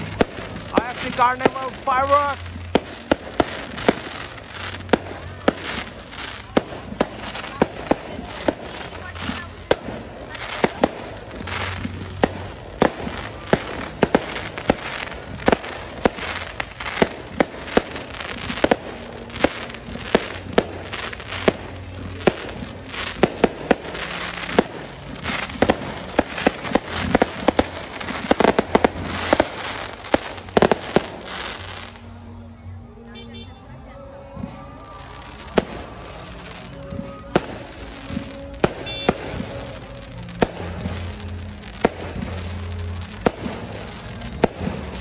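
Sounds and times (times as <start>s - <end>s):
continuous noisy haze: 0.0s - 45.0s.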